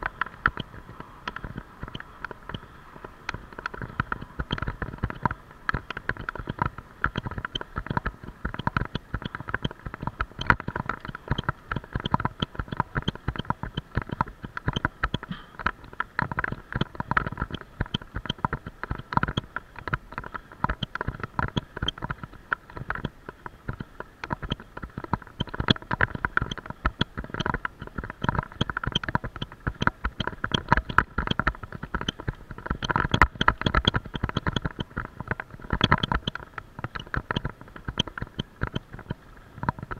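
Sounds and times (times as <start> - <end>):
action camera rattling in mount: 3.3 - 39.9.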